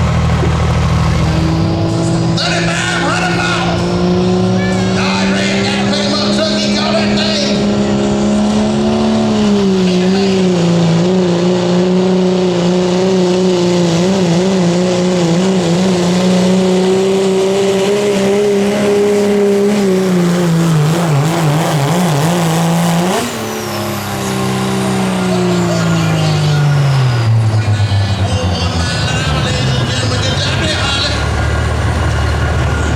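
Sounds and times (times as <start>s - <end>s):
diesel truck engine at full throttle: 0.0s - 32.9s.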